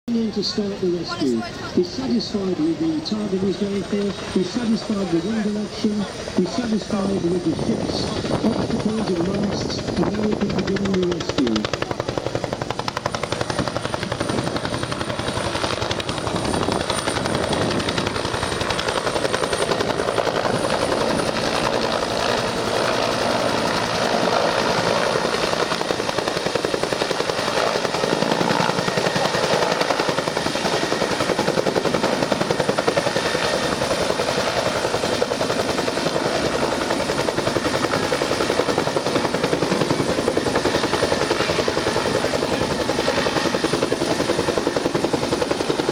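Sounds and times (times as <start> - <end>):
helicopter rotor blades chopping: 0.1 - 45.9
high turbine whine: 0.1 - 45.9.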